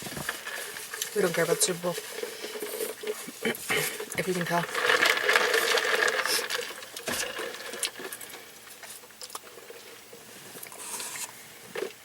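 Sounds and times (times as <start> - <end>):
small clicks and crinkles: 0.0 - 12.0.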